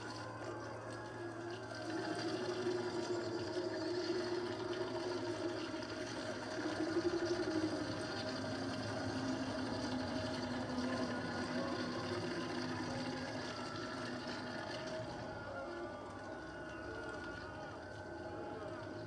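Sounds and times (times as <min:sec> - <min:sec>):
machine-like droning tone: 0:00.0 - 0:19.0.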